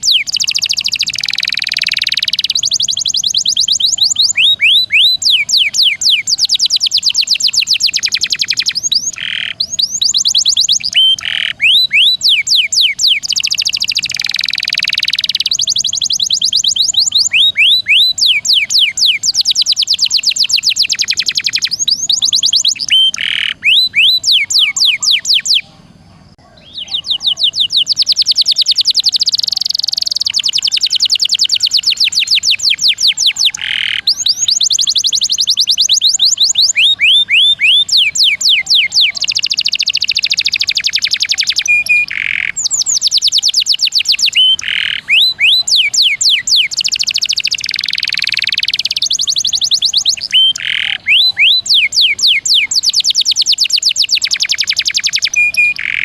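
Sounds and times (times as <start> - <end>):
canary singing in rolling trills: 0.0 - 56.0.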